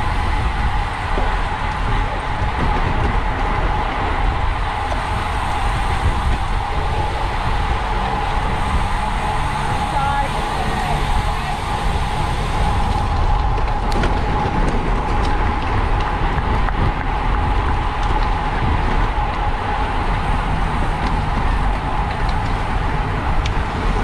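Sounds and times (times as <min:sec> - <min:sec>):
wind rush and road noise: 0:00.0 - 0:24.0.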